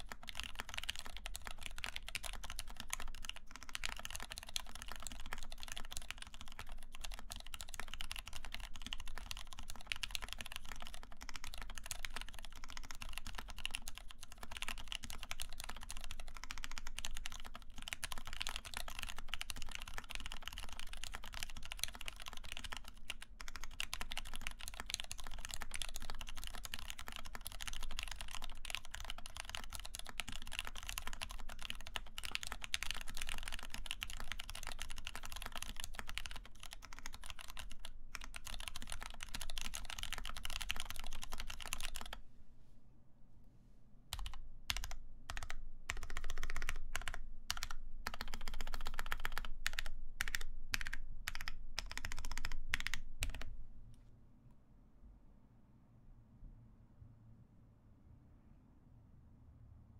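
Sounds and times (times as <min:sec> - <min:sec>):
mechanical keyboard typing: 0:00.0 - 0:42.2, 0:44.1 - 0:53.5.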